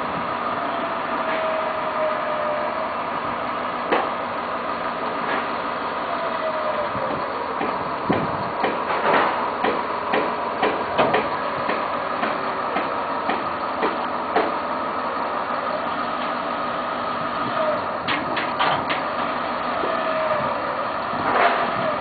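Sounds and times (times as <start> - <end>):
truck mechanical whine: 0.0 - 22.0.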